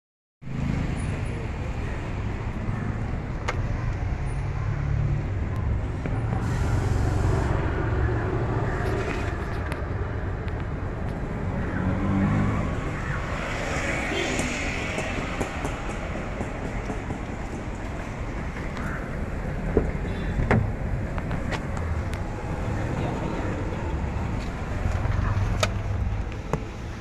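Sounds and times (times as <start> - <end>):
traffic rumble: 0.5 - 27.0.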